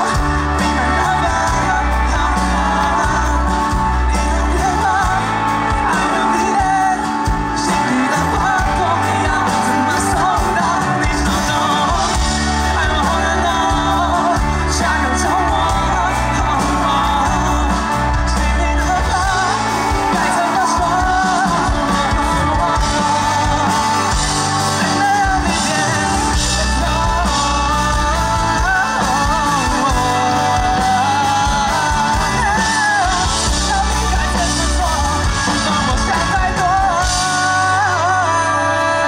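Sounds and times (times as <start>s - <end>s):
drums: 0.0s - 39.0s
electric bass: 0.0s - 39.0s
electric guitar: 0.0s - 39.0s
keyboard: 0.0s - 39.0s
man singing into microphone: 0.0s - 39.0s.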